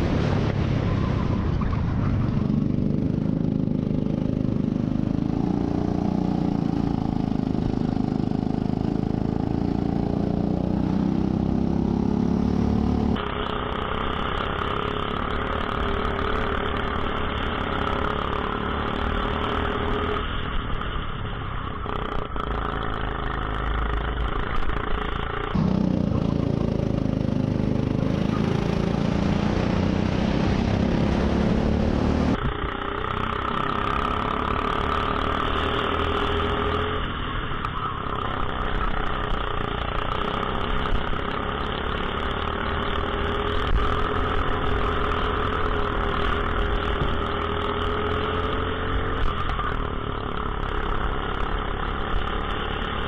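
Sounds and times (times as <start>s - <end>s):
go-kart engine running: 0.0s - 53.0s.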